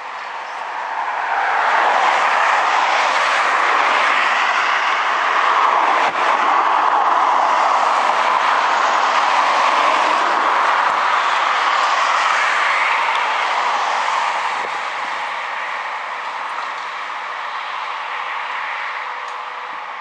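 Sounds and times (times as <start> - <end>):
cars passing close by: 0.0 - 20.0.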